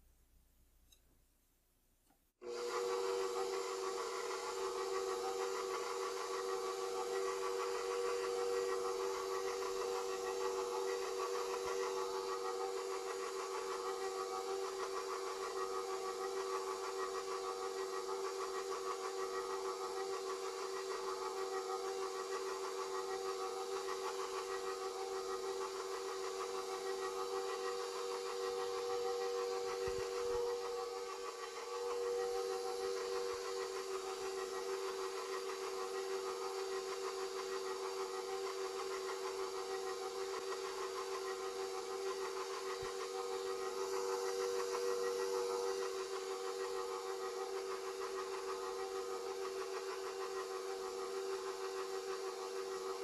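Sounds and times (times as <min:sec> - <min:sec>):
stand mixer humming: 0:02.4 - 0:53.0.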